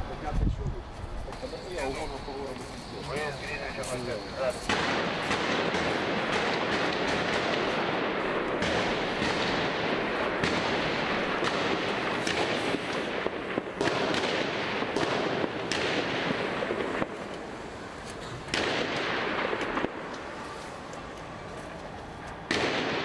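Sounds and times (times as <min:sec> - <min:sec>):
loud steady background din: 0:00.0 - 0:23.0
sharp bangs: 0:01.6 - 0:20.8, 0:22.4 - 0:23.0.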